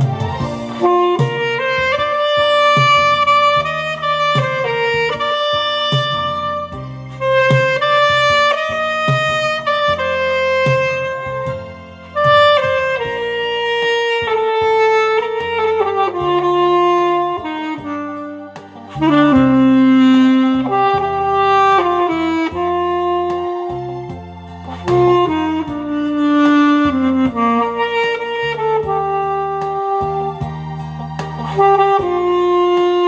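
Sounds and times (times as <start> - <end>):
alto saxophone melody: 0.0 - 33.0
backing accompaniment with bass line: 0.0 - 33.0.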